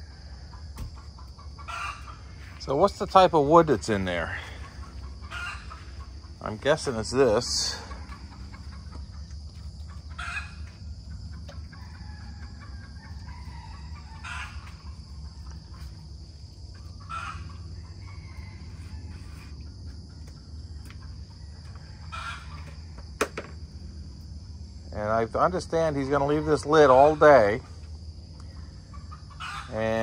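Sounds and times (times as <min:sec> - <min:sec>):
chickens clucking: 0:00.0 - 0:23.7, 0:25.3 - 0:30.0
low background hum: 0:00.0 - 0:30.0.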